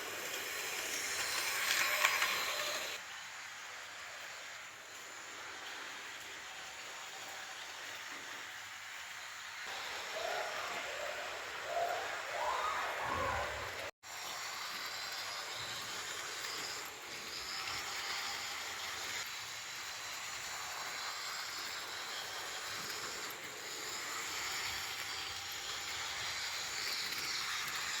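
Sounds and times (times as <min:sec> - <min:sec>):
model train running on track: 0:00.0 - 0:28.0.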